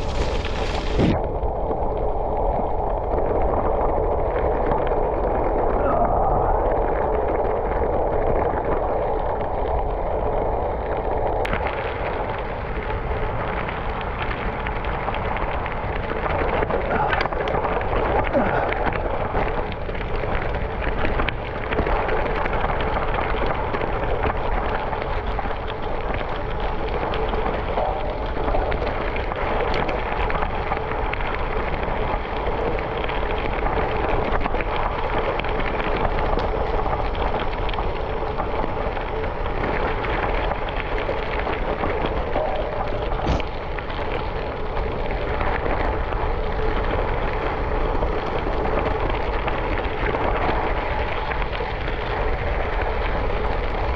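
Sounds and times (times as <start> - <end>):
tyres rolling over gravel: 0.0 - 1.2, 11.4 - 53.9.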